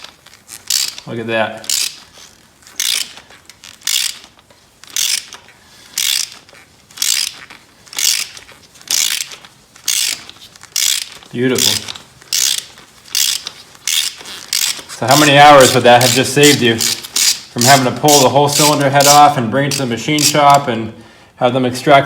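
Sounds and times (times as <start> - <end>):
ratchet wrench clicking: 0.0 - 1.0, 1.6 - 20.6.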